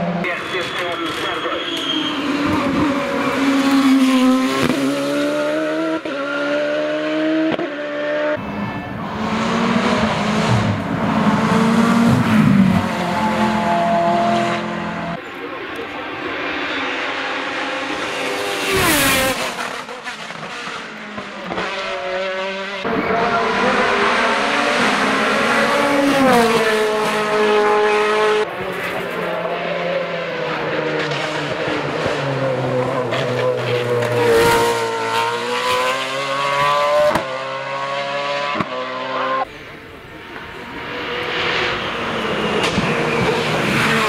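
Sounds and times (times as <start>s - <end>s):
race car engines revving: 0.0s - 44.0s.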